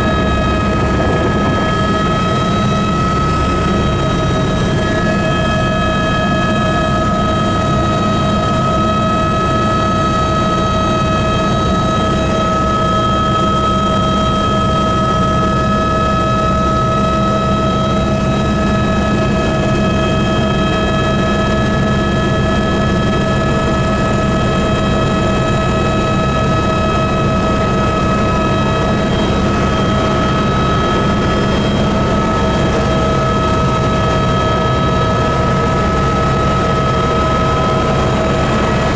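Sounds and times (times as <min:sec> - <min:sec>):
helicopter rumble: 0:00.0 - 0:38.9.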